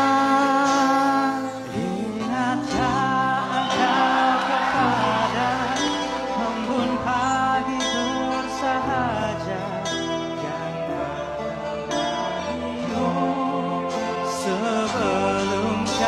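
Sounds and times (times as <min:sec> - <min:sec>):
guitar: 0:00.0 - 0:16.0
live band playing pop ballad: 0:00.0 - 0:16.0.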